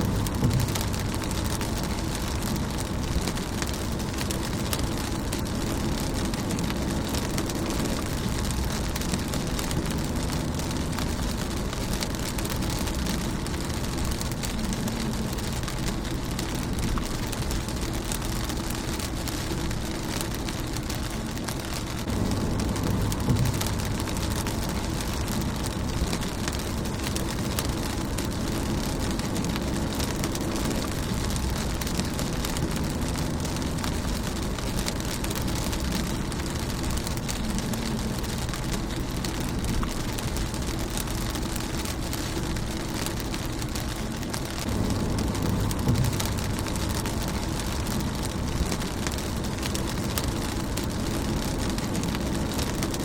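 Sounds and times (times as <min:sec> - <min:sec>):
low rumble: 0:00.0 - 0:53.0
rain on a car windshield: 0:00.0 - 0:53.0.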